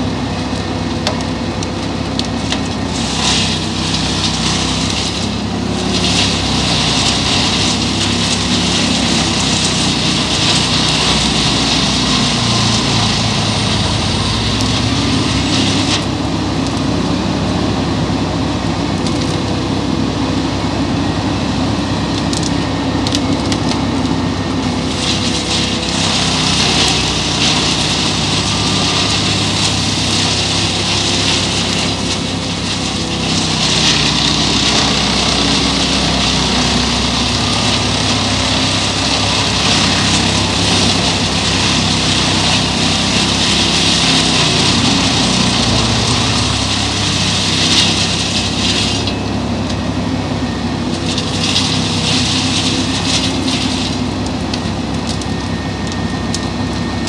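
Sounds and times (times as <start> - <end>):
truck engine under load: 0.0 - 57.0
wood chipper shredding branches: 0.0 - 57.0.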